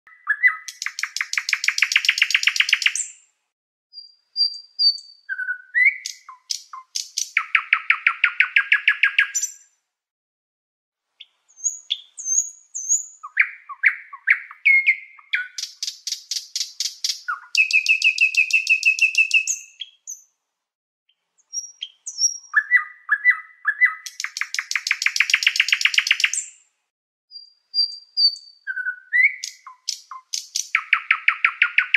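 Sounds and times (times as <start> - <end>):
nightingale singing: 0.1 - 3.3, 3.9 - 9.7, 11.2 - 20.4, 21.1 - 26.7, 27.3 - 31.9.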